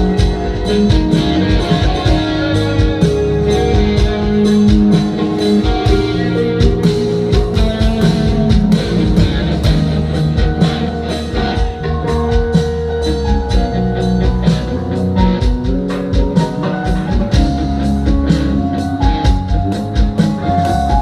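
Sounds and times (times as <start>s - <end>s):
bass: 0.0s - 21.0s
drum pad and hand percussion: 0.0s - 21.0s
keyboard and guitar notes: 0.0s - 21.0s.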